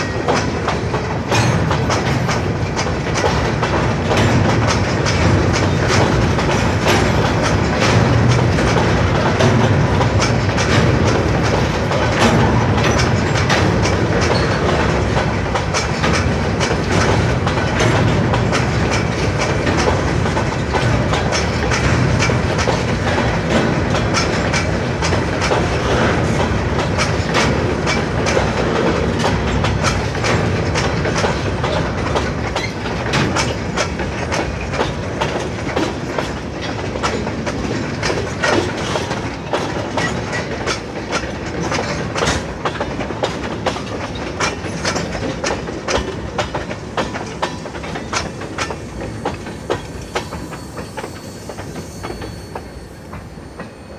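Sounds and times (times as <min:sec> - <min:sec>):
freight train rumbling past: 0:00.0 - 0:53.9
wheels clattering over rail joints: 0:00.0 - 0:53.9.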